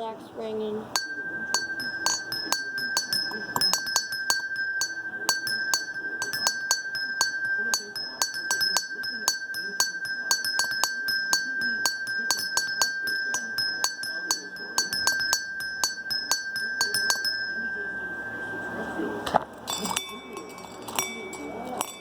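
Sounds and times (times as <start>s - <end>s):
high ringing bell: 0.9s - 22.0s
small bells clinking in a peal: 0.9s - 22.0s.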